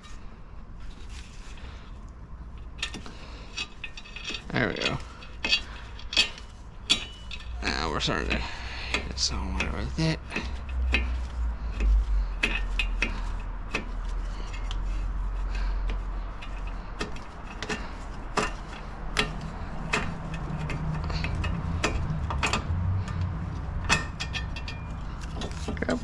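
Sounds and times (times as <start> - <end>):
hand tools clicking on metal: 2.6 - 14.9, 15.5 - 26.0.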